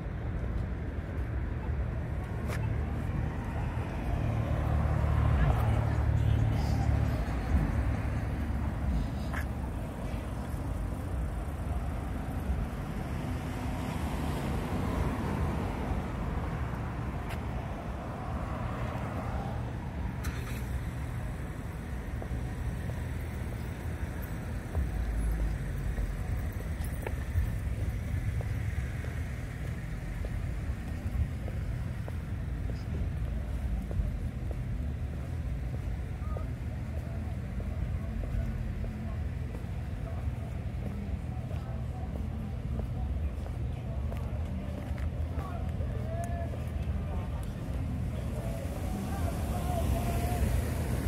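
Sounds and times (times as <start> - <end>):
cars passing: 0.0 - 51.0
steady low traffic rumble: 0.0 - 51.0.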